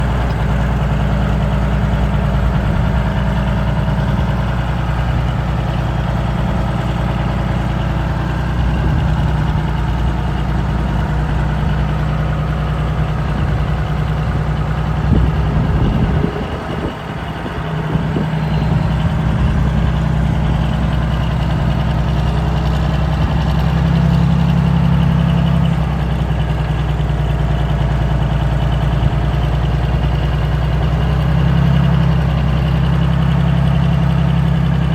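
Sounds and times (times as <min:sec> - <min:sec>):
truck crane engine idling: 0:00.0 - 0:34.9.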